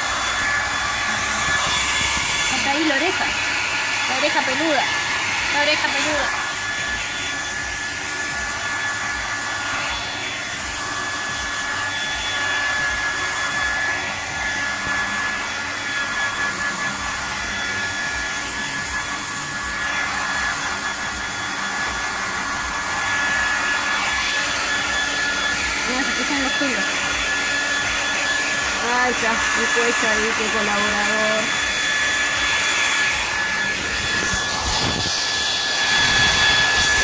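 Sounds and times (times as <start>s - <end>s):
hair dryer blowing: 0.0s - 37.0s.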